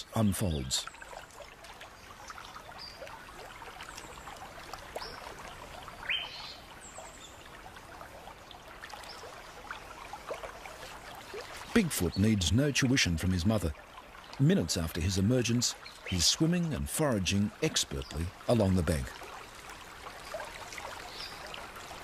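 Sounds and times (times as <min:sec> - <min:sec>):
creek water trickling: 0:00.0 - 0:22.0.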